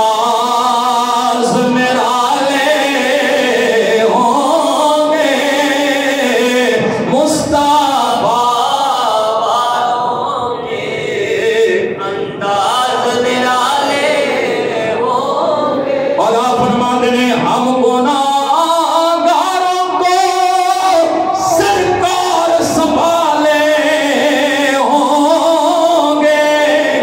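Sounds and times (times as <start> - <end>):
man chanting religious recitation: 0.0 - 27.0.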